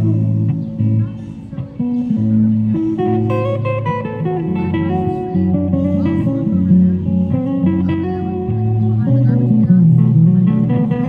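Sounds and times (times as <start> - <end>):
guitar chords and melody: 0.0 - 11.0.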